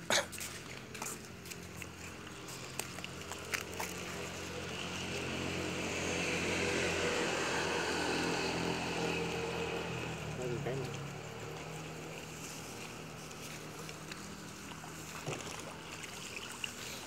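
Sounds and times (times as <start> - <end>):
small engine running: 0.6 - 17.0.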